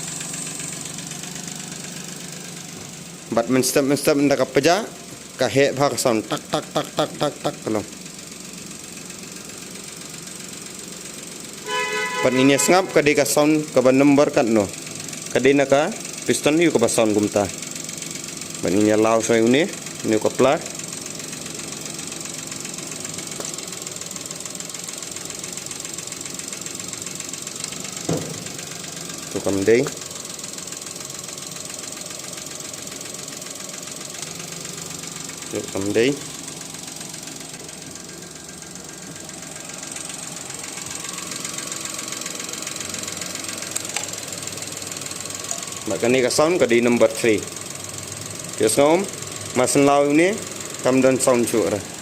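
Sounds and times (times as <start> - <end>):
car engine knocking: 0.0 - 52.0.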